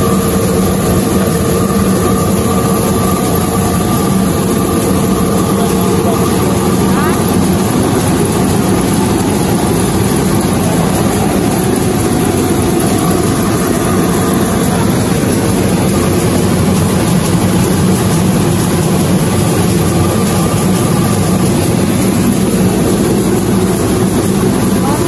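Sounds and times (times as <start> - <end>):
rice milling machine drone: 0.0 - 25.0.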